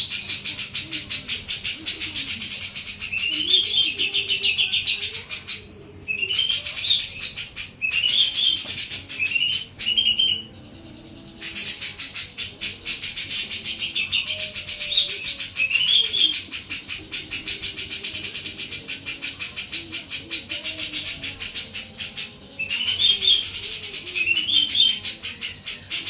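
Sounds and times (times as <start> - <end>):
songbird chattering with trills: 0.0 - 26.0.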